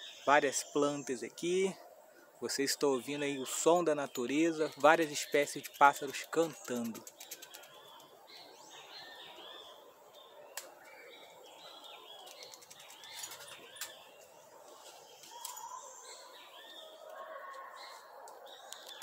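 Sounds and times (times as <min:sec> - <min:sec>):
birds singing and chirping: 0:00.0 - 0:19.0.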